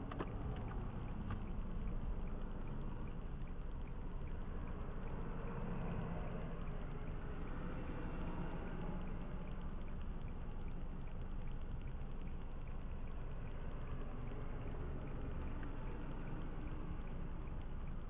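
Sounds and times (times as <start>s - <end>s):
car road rumble: 0.0s - 18.0s
faint regular ticking: 0.0s - 18.0s.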